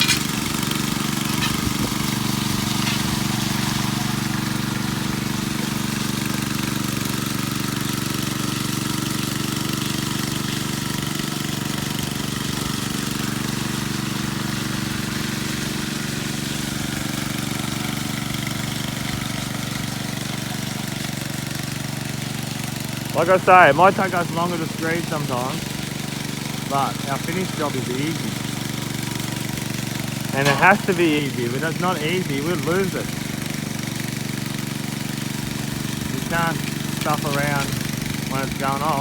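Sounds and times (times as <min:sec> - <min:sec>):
power trowel engine running: 0:00.0 - 0:39.0.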